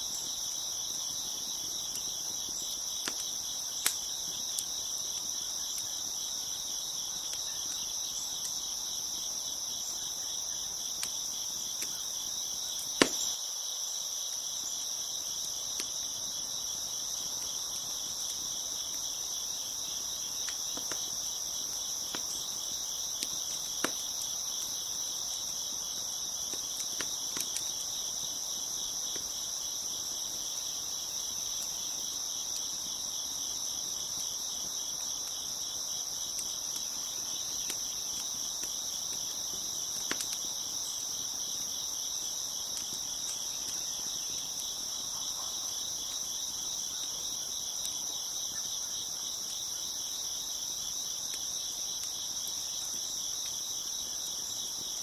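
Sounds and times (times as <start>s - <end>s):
crickets chirping: 0.0s - 55.0s
wood fire popping: 0.1s - 13.4s, 14.4s - 45.1s, 50.3s - 55.0s.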